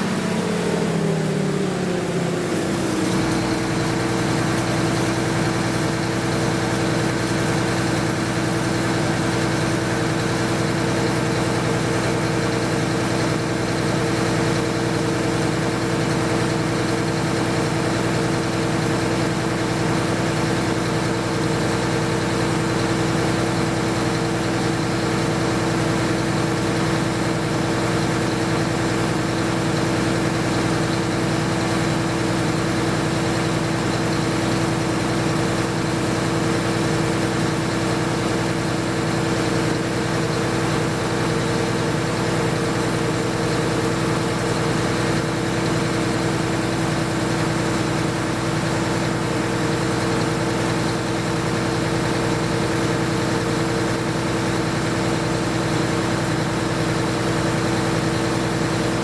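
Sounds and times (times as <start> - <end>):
diesel engine running: 0.0 - 59.0
generator hum: 0.0 - 59.0.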